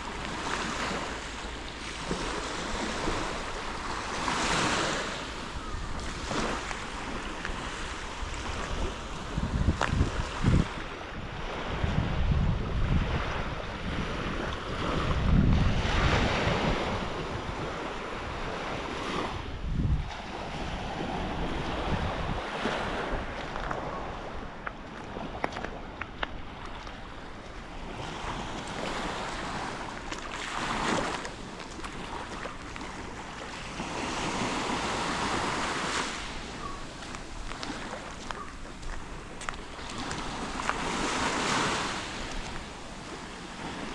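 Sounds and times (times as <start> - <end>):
sea waves washing on beach: 0.0 - 43.9
wind buffeting microphone: 0.0 - 43.9.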